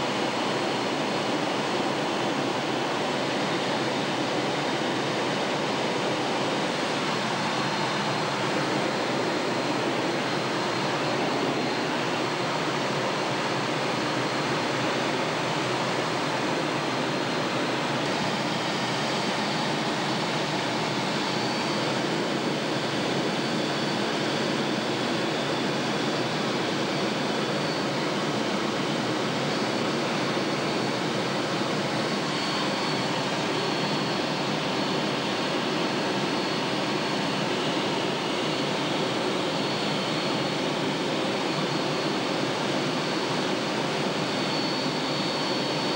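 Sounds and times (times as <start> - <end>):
faint high whine: 0.0 - 45.9
jet engine and airflow roar: 0.0 - 45.9.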